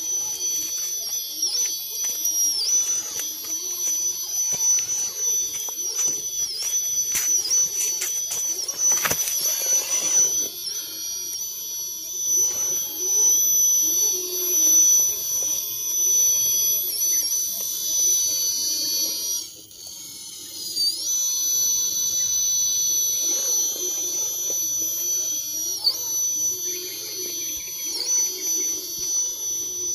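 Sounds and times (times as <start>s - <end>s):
electric motor whining: 0.0s - 29.9s.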